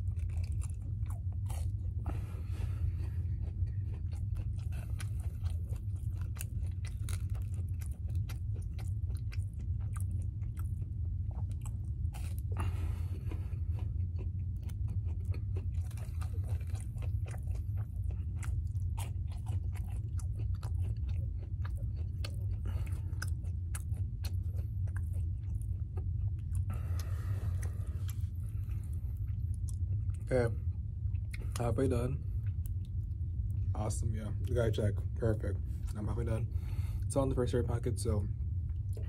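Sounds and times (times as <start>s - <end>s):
person chewing: 0.0s - 39.0s
steady low hum: 0.0s - 39.0s.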